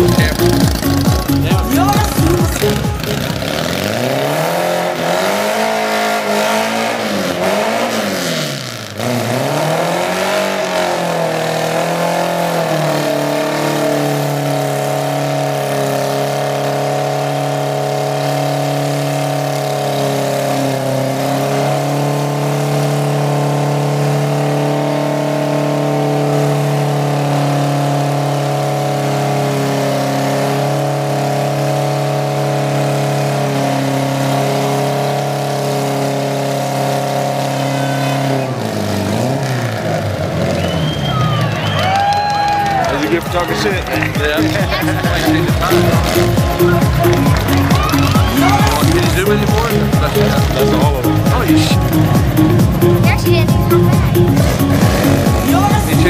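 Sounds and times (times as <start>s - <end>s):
engine revving: 0.0s - 56.0s
tires spinning: 0.0s - 56.0s.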